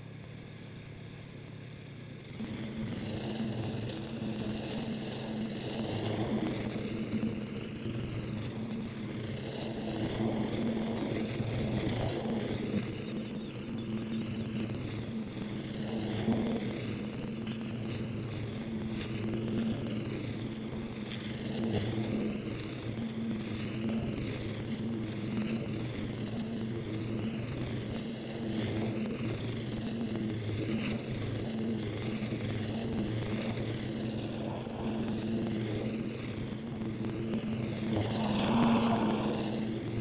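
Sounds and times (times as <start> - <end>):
brush mower engine running: 0.0 - 40.0.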